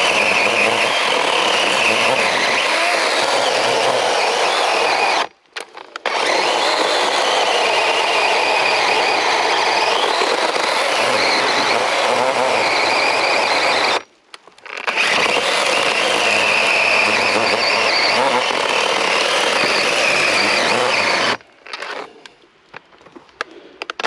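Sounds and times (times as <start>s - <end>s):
electric chainsaw cutting log: 0.0s - 14.1s, 14.7s - 22.1s.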